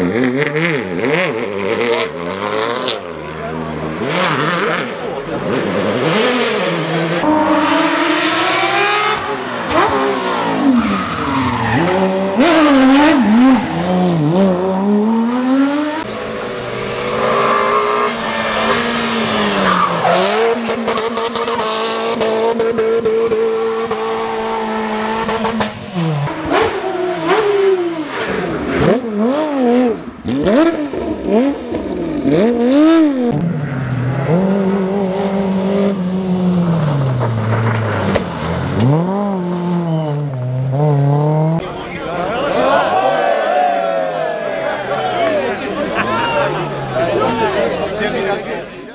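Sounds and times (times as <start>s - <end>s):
rally car engine revving: 0.0s - 42.6s.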